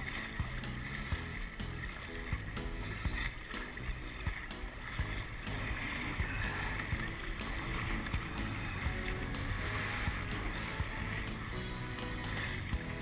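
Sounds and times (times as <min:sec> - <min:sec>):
water splashing against kayak: 0:00.0 - 0:13.0.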